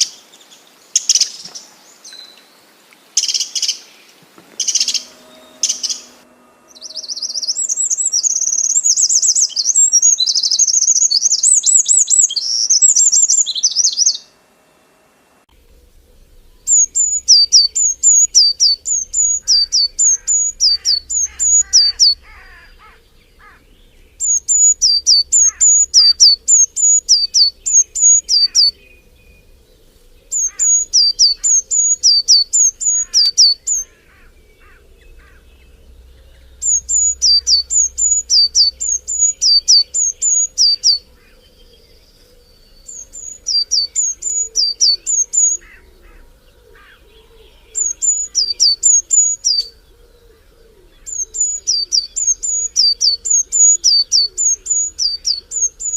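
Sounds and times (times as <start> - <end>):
birds chirping: 0.0 - 55.9
songbird singing: 0.0 - 55.9.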